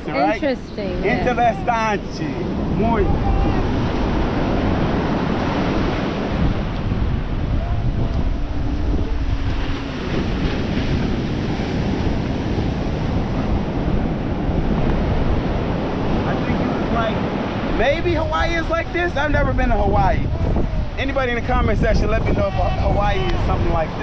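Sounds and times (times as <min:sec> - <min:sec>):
ocean surf washing onto beach: 0:00.0 - 0:24.0
wind noise on microphone: 0:00.0 - 0:24.0.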